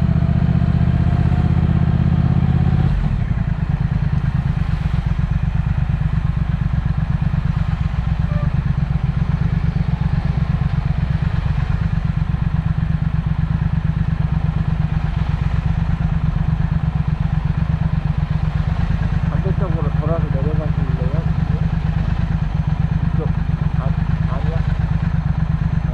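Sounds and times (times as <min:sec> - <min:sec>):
motorcycle engine running steadily: 0:00.0 - 0:25.9.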